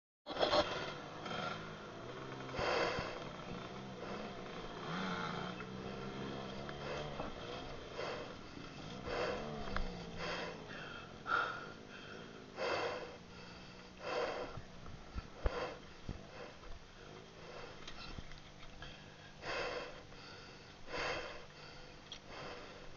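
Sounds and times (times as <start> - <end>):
motorcycle engine idling: 0.3 - 22.9
heavy panting: 2.4 - 22.9.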